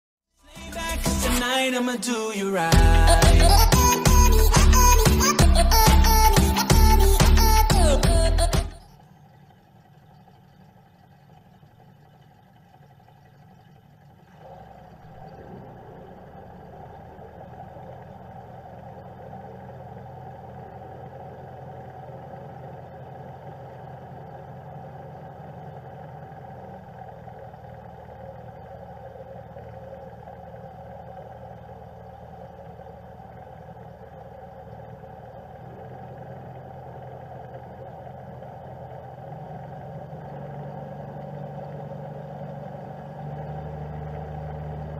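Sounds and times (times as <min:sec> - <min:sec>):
outboard motors droning: 0:02.6 - 0:44.9.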